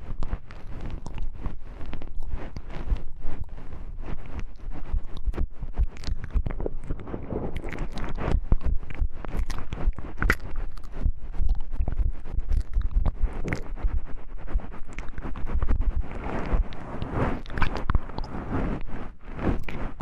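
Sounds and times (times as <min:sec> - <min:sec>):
microphone contact rumble: 0:00.0 - 0:20.0.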